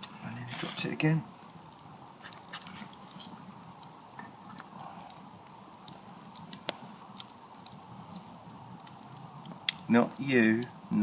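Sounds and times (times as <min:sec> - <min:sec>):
campfire crackling: 0:00.0 - 0:11.0
faint hiss: 0:00.0 - 0:11.0.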